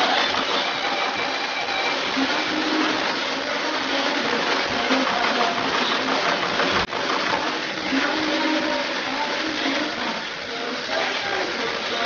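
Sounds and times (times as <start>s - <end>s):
sewing machine running: 0.0s - 12.0s.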